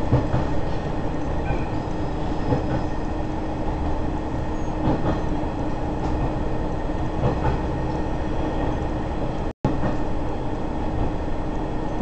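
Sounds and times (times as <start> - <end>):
railcar rumble: 0.0 - 12.0.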